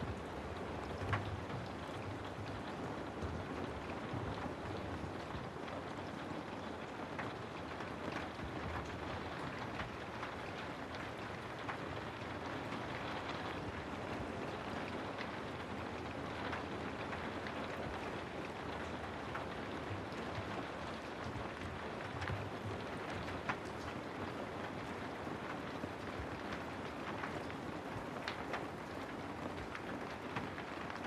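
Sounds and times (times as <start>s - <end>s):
steady rain hiss: 0.0s - 31.0s
raindrop ticks: 0.1s - 31.0s.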